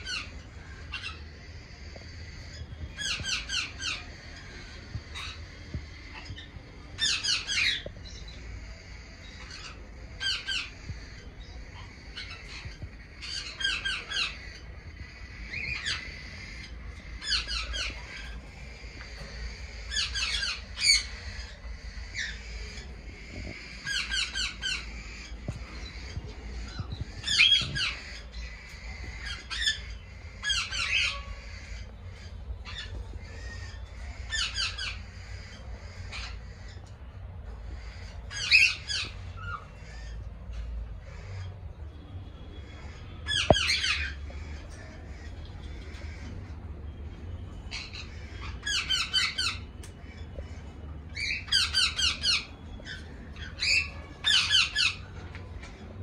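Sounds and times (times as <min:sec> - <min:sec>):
cockatiels calling: 0:00.0 - 0:37.0, 0:37.6 - 0:41.6, 0:42.7 - 0:46.6, 0:47.5 - 0:55.8.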